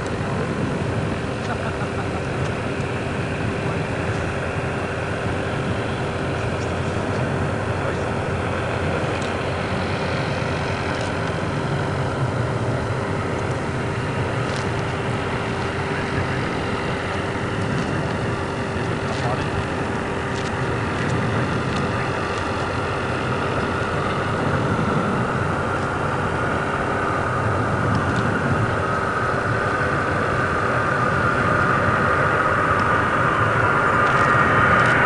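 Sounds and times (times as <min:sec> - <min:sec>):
jet airliner roar: 0:00.0 - 0:35.0.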